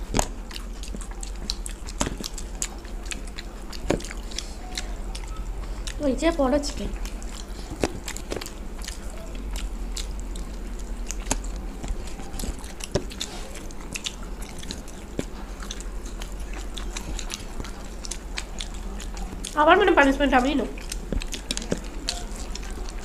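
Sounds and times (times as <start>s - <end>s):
low steady hum: 0.0s - 23.0s
people chewing fried food: 0.0s - 23.0s.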